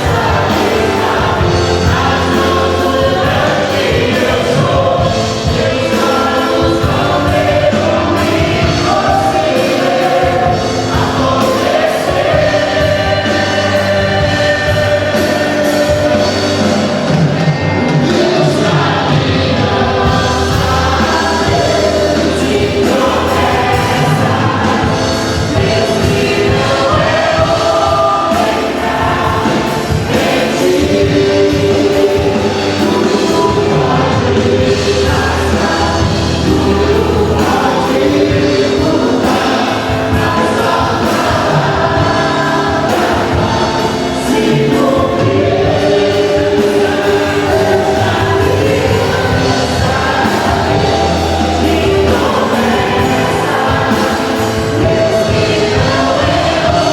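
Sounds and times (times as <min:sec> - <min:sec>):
choir singing: 0:00.0 - 0:56.9
instrumental accompaniment: 0:00.0 - 0:56.9.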